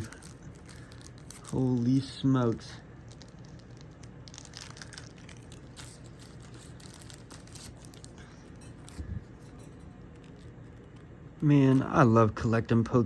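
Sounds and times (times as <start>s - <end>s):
cards and plastic packaging rustling: 0.0s - 12.1s
steady low hum: 0.0s - 13.0s.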